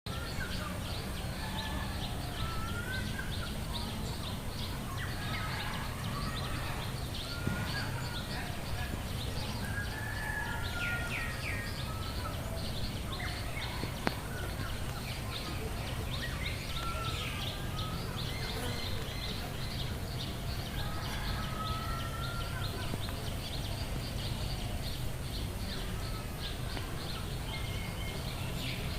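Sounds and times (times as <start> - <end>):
birds chirping: 0.1 - 28.9
gliding whistled bird calls: 0.1 - 28.9.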